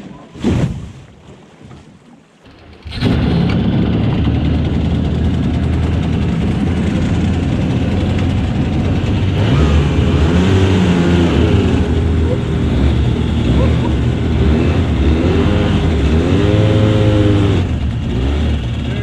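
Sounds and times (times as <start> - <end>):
boat engine running: 2.4 - 19.0.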